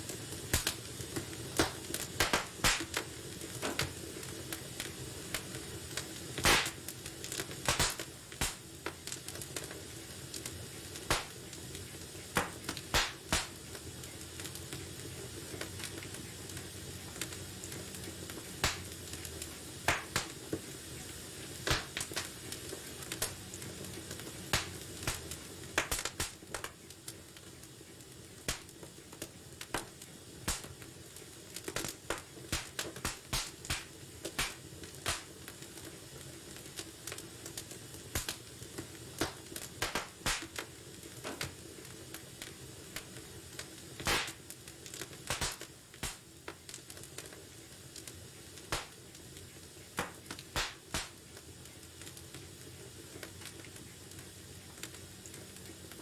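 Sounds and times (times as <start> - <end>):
fire crackling and popping: 0.0 - 56.0
low hiss of burning: 0.0 - 56.0.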